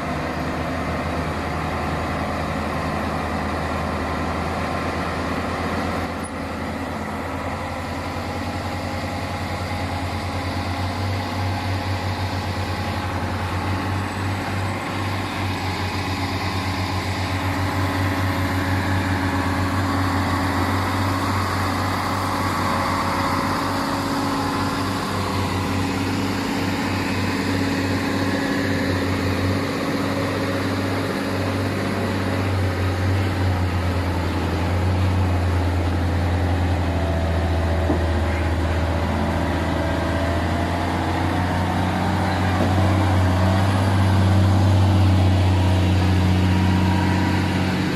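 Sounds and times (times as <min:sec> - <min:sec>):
diesel truck engine drone: 0:00.0 - 0:47.9
traffic noise: 0:00.0 - 0:47.9.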